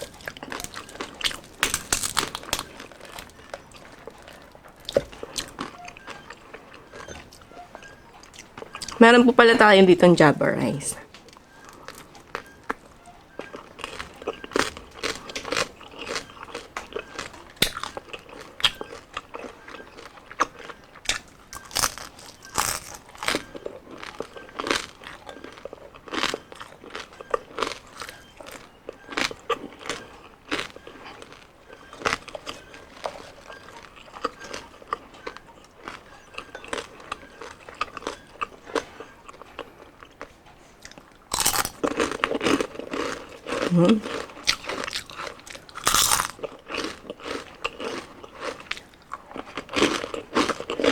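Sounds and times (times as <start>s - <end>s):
crunching bites and chewing: 0.0s - 7.4s, 11.4s - 50.9s.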